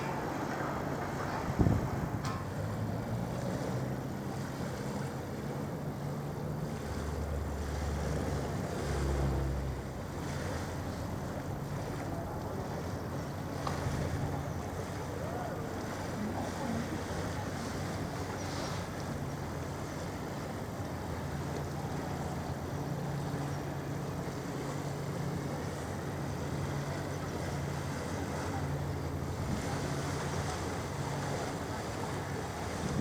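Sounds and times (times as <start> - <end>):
diesel engines droning: 0.0 - 33.0.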